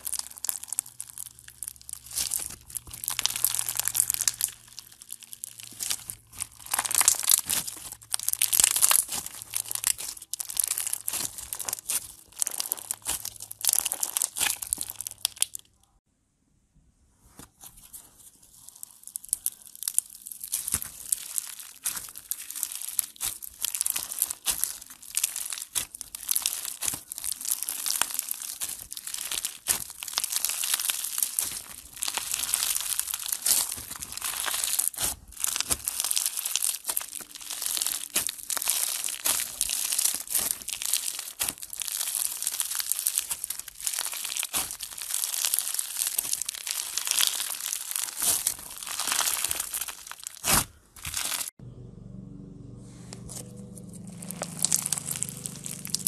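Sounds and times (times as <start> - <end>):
foam bead slime crackling: 0.0 - 15.9, 17.7 - 51.6, 53.8 - 56.0.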